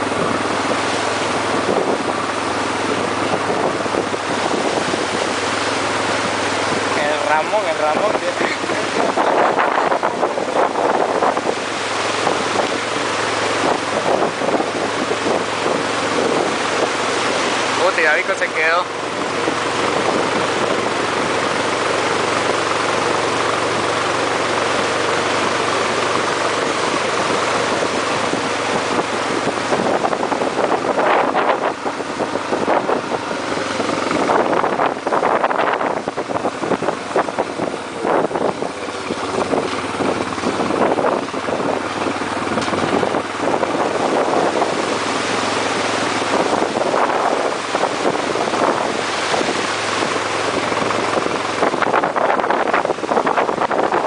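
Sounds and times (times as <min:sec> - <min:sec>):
steady engine hum: 0:00.0 - 0:54.0
water surging and splashing: 0:00.0 - 0:54.0
wind buffeting microphone: 0:00.0 - 0:54.0.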